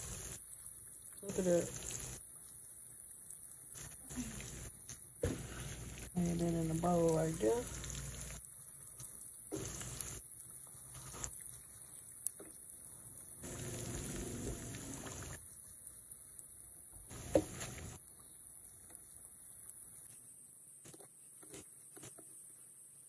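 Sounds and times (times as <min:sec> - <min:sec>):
chicken frying in hot oil: 0:00.0 - 0:23.0.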